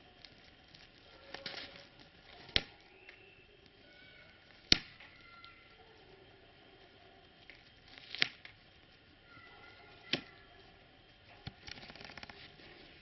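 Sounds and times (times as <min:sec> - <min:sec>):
small clicks and rustles: 0:00.0 - 0:13.0.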